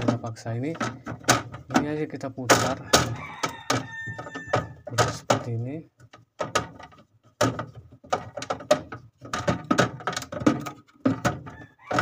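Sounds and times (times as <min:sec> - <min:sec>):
plastic creaking and cracking: 0:00.0 - 0:12.0.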